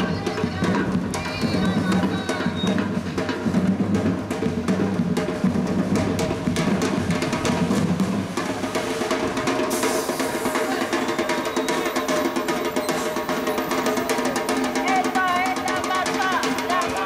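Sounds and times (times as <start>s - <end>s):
marching drums playing: 0.0s - 17.0s.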